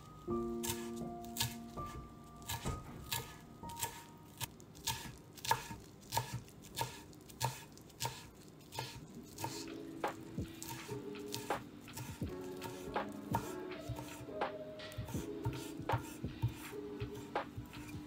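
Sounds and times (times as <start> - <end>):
knife chopping on wooden board: 0.6 - 18.0.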